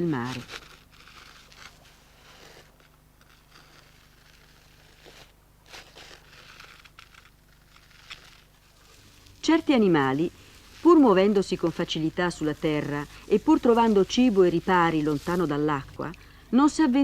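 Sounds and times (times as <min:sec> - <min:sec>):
rustling and crackling: 0:00.0 - 0:17.0
steady low hum: 0:00.0 - 0:17.0.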